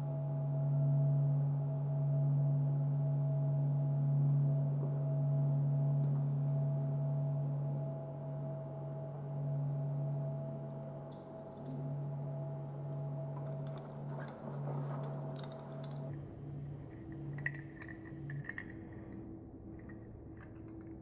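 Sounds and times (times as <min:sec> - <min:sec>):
low humming drone: 0:00.1 - 0:21.0.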